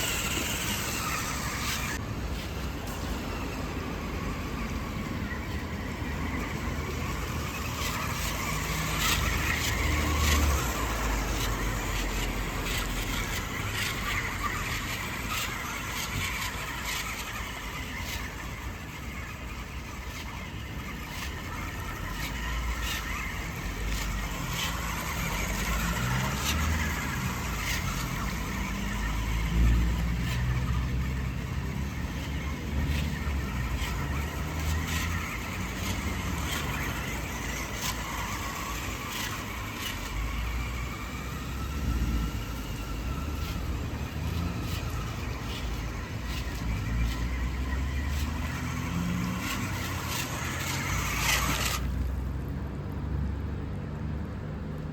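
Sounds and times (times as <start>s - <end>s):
toy truck motor whining: 0.0s - 54.9s.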